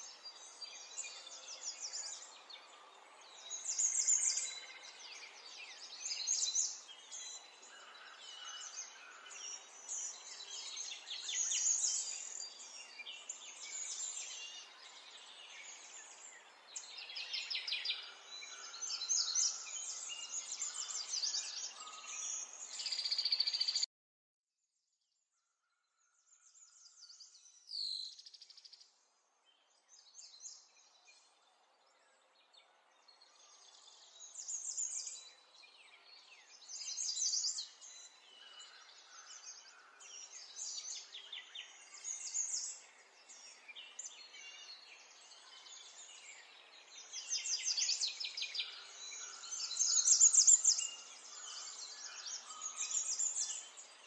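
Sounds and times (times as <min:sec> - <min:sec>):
small birds chirping: 0:00.0 - 0:23.9, 0:25.9 - 0:54.0.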